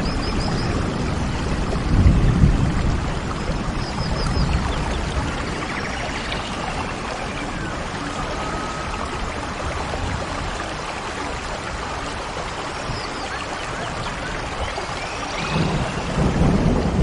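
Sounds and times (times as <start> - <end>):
flowing water: 0.0 - 17.0.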